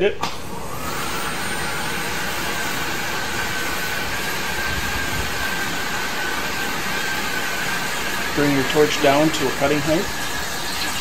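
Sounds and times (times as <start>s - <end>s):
cutting torch flame hissing: 0.4s - 11.0s.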